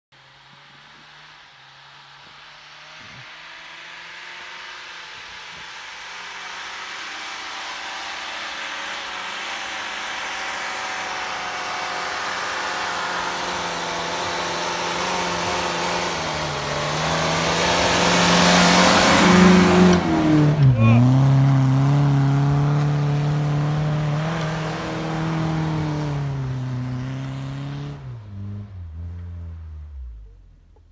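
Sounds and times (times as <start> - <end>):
car engine pulling under load: 4.0 - 30.9.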